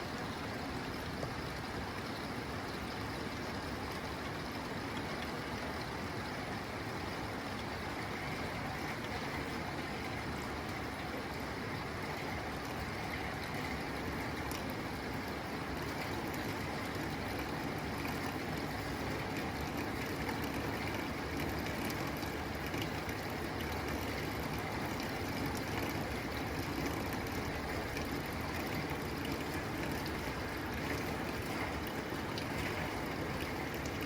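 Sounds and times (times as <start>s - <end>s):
rain on a tin roof: 0.0s - 34.0s.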